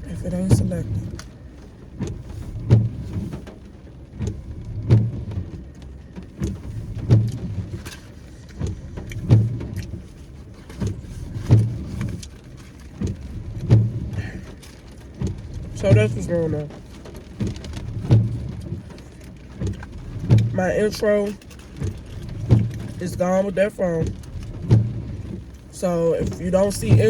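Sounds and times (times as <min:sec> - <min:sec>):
windshield wipers sweeping: 0:00.0 - 0:27.0
wiper thump: 0:00.0 - 0:27.0.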